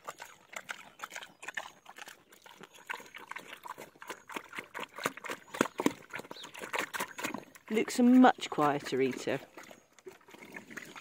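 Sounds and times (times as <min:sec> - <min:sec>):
pig chomping food: 0:00.0 - 0:11.0.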